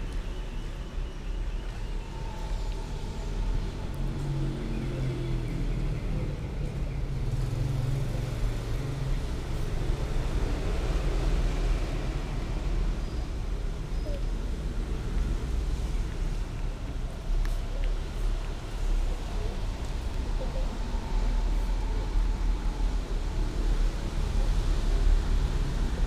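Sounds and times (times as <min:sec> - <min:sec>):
low engine rumble: 0:01.4 - 0:26.0.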